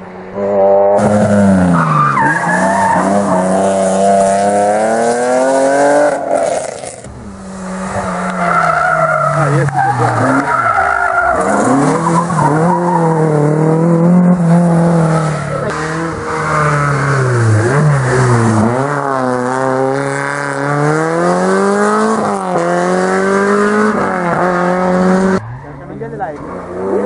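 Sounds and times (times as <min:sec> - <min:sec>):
rally car engine revving: 0:00.2 - 0:27.0.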